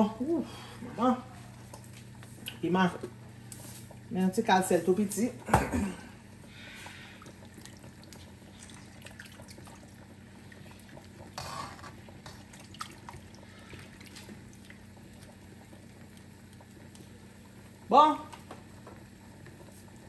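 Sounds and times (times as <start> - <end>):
steady low hum: 0.0 - 20.0
broth bubbling in a pot: 1.6 - 20.0.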